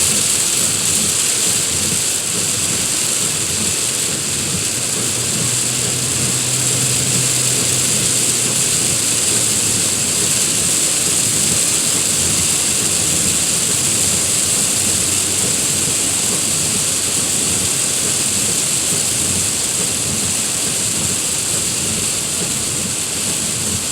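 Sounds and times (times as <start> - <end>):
steady rain hiss: 0.0 - 23.9.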